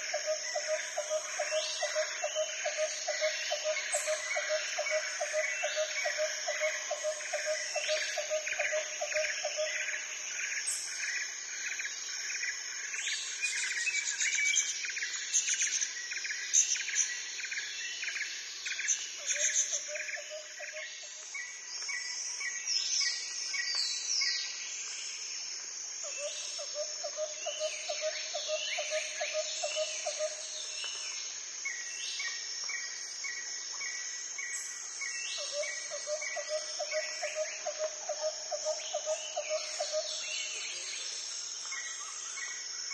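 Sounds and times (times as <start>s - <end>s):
high insect drone: 0.0s - 42.9s.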